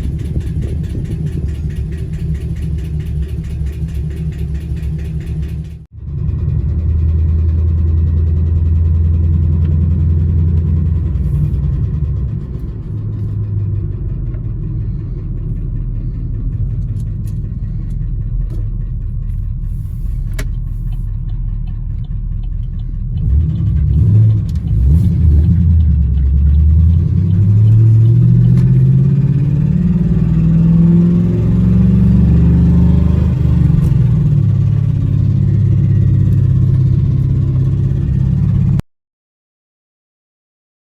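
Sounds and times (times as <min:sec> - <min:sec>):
car engine running and revving: 0:00.0 - 0:38.8.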